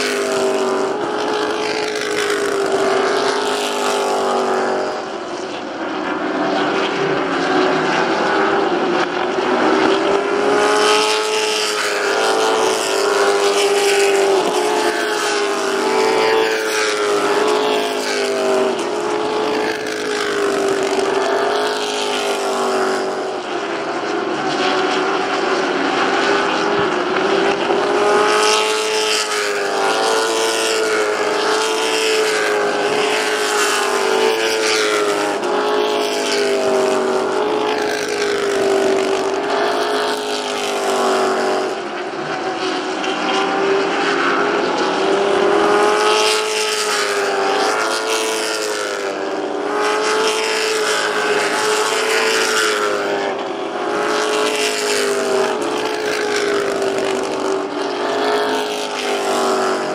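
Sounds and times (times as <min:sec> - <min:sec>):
racing car engines passing: 0:00.0 - 0:59.9.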